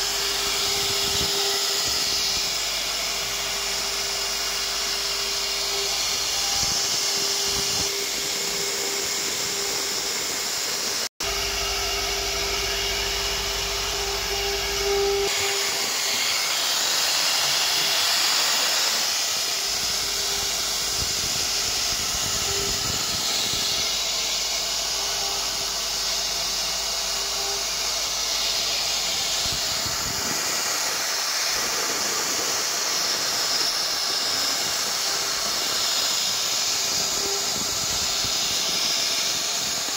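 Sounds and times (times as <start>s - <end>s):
bit cutting wood hiss: 0.0s - 39.9s
router spindle whining: 0.0s - 39.9s.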